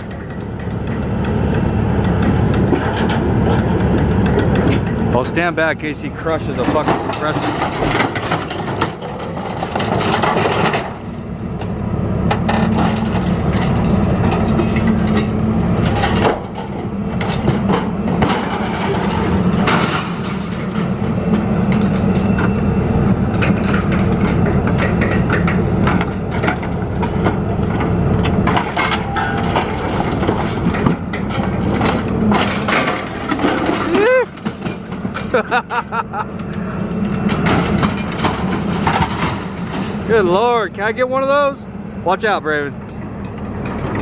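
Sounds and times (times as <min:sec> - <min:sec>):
machine engine hum: 0:00.0 - 0:44.0
metal cracking and crunching: 0:02.0 - 0:22.2, 0:23.3 - 0:41.5.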